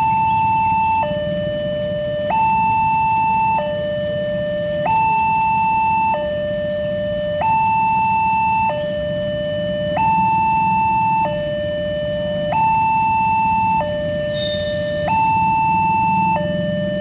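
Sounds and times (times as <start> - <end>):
idling traffic rumble: 0.0 - 17.0
level crossing two-tone alarm: 0.0 - 17.0.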